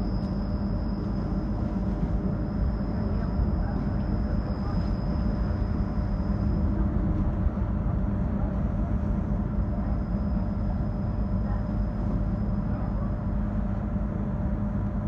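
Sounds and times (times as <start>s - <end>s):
faint high whine: 0.0s - 13.6s
train running rumble: 0.0s - 15.0s.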